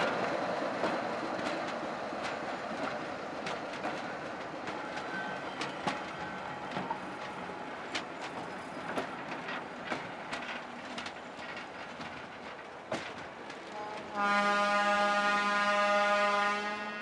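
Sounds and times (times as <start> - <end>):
sharp wheel clicks over rails: 0.0 - 14.1
train rumble: 0.0 - 17.0.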